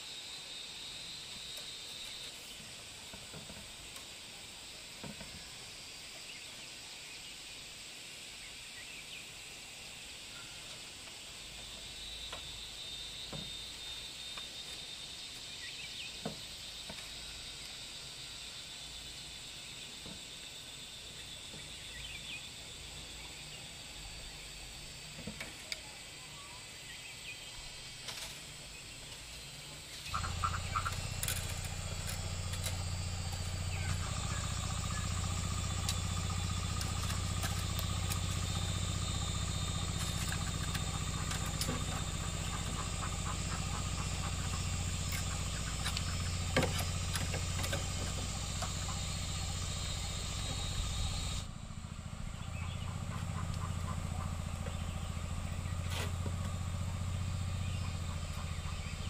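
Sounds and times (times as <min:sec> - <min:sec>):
low drone with hiss: 0:00.0 - 0:59.0.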